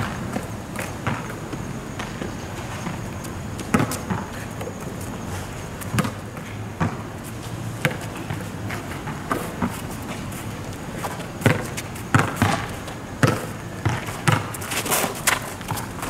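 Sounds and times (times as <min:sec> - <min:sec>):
basketball bouncing on asphalt: 0:00.0 - 0:16.0.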